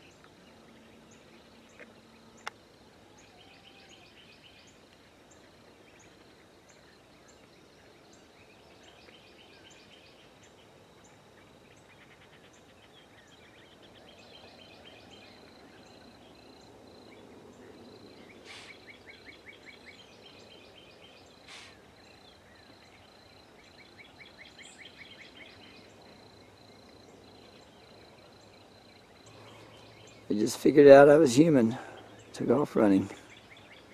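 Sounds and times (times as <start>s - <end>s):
trilled bird calls: 0.0s - 33.9s.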